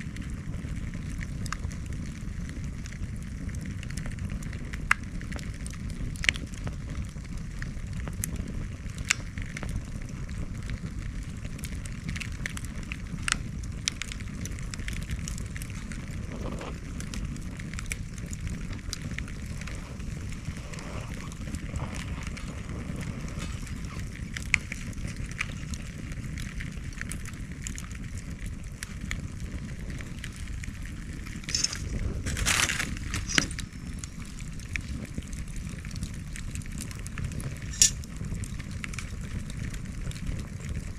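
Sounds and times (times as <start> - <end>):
bonfire crackling and popping: 0.0 - 40.9
fire hissing: 0.0 - 40.9
low fire rumble: 0.0 - 40.9.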